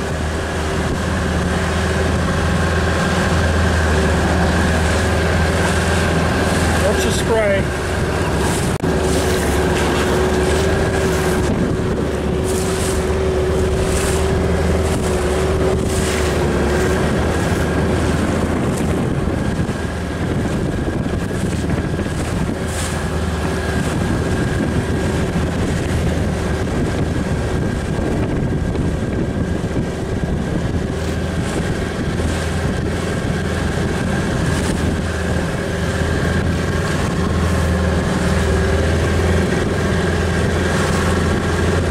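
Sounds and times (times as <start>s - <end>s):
outboard motor running: 0.0s - 41.9s
wind buffeting the microphone: 0.0s - 41.9s.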